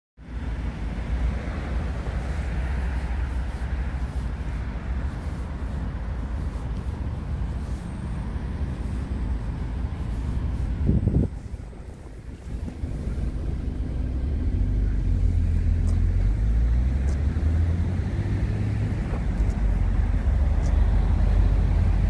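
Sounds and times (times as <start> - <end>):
road traffic: 0.2 - 22.0
wind buffeting microphone: 0.6 - 22.0.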